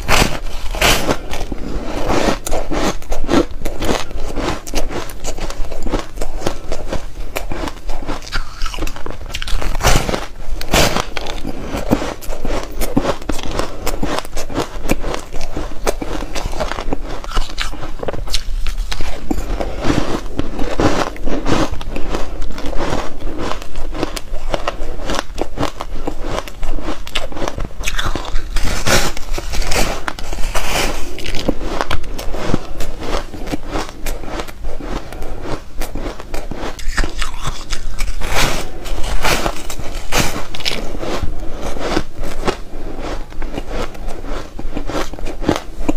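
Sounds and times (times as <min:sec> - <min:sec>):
ice crunching between teeth: 0:00.0 - 0:45.9.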